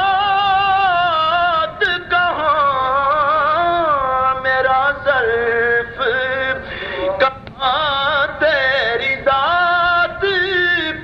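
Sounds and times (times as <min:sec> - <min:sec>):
man singing devotional song: 0:00.0 - 0:11.0.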